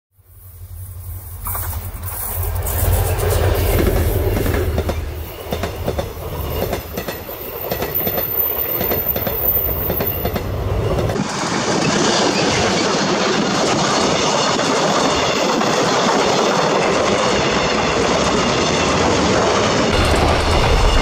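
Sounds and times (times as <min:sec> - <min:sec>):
diesel locomotive rumbling past: 0:00.2 - 0:21.0
hissing rush of wheels on rails: 0:00.2 - 0:21.0
clickety-clack of train wheels: 0:01.4 - 0:21.0.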